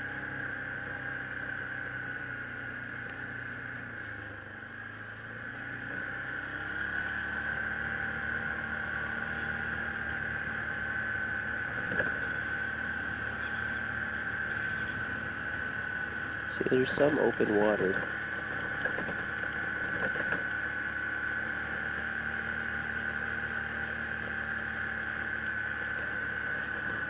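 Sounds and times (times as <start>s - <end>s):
high whine: 0.0s - 27.0s
quad bike engine running: 0.0s - 27.0s.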